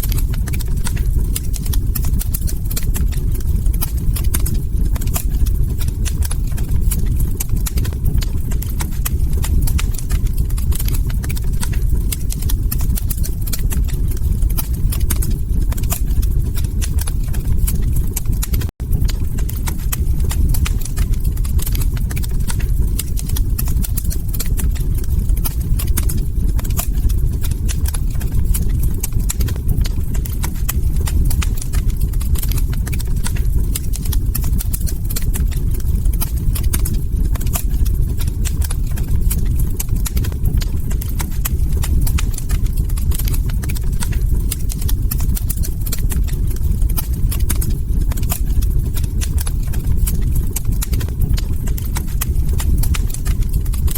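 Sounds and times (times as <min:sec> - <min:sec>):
log fire crackling: 0:00.0 - 0:53.9.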